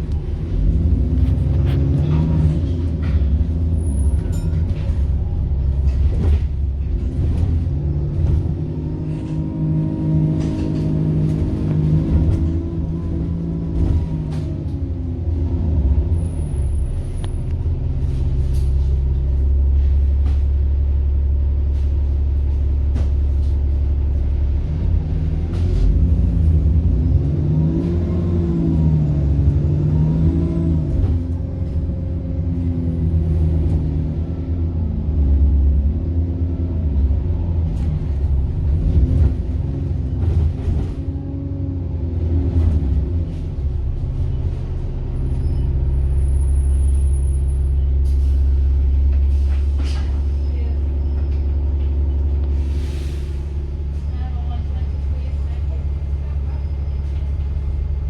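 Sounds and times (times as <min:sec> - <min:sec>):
bus diesel engine revving: 0:00.0 - 0:21.8, 0:22.4 - 0:58.0.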